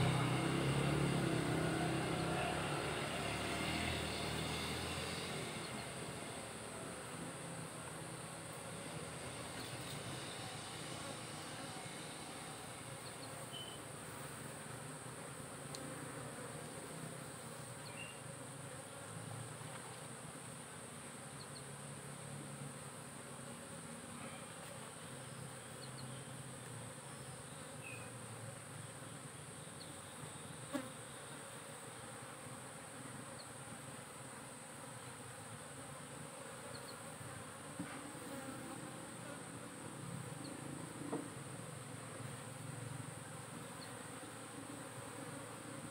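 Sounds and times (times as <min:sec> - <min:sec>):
honey bees buzzing: 0:00.0 - 0:25.8, 0:30.2 - 0:45.9.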